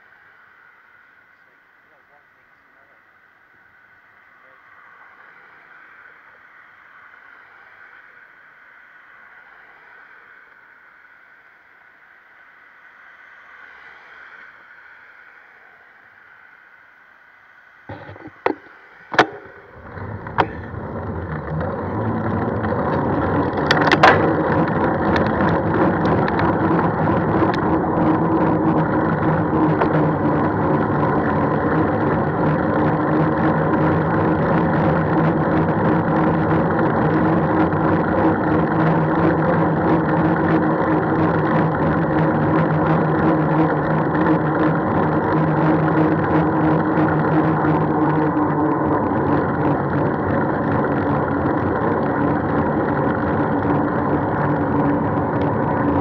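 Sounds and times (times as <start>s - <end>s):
road travel rushing noise: 2.8s - 56.0s.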